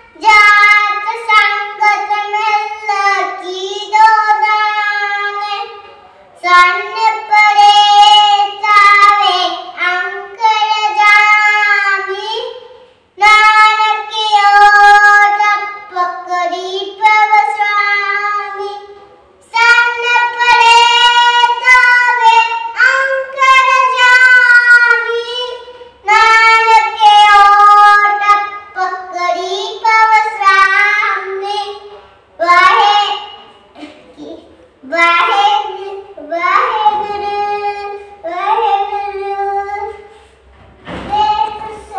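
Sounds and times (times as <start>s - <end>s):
girl singing a hymn: 0.0s - 41.9s.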